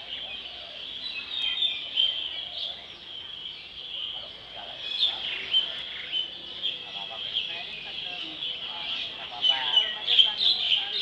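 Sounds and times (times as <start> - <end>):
small birds chirping and twittering: 0.0 - 11.0.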